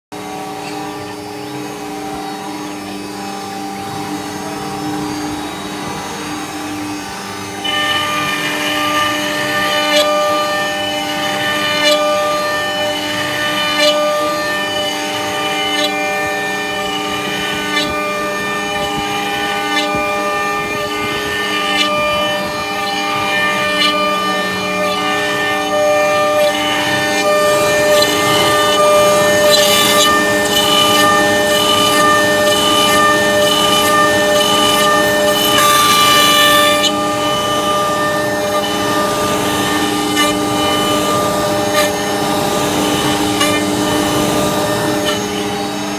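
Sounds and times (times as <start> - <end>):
router spindle cutting wood: 0.2 - 45.9.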